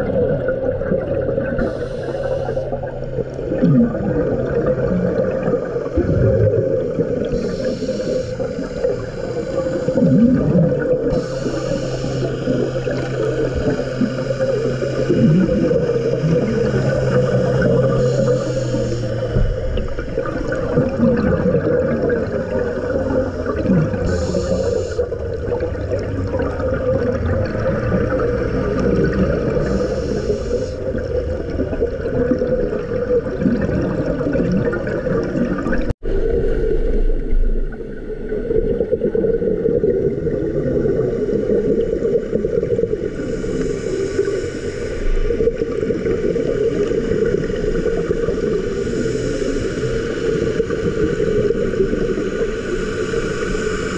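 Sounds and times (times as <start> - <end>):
muffled underwater rumble: 0.0 - 53.9
scuba exhaust bubbles hissing: 0.0 - 53.9.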